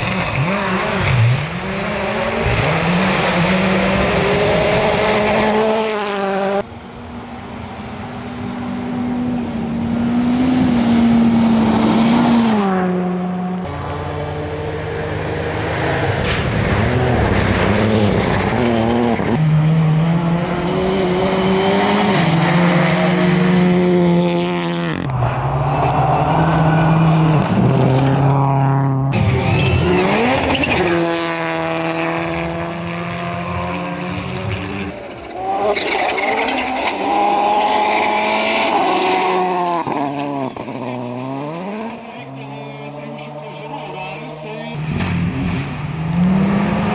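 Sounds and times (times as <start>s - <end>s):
rally car engines revving high: 0.0s - 46.9s.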